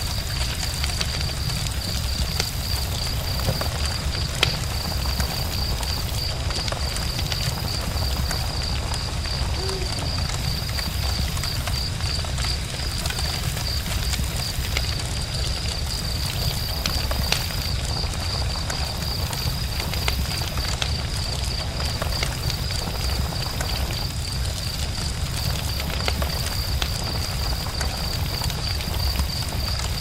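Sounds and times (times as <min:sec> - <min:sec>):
campfire crackling: 0:00.0 - 0:30.0
low fire rumble: 0:00.0 - 0:30.0.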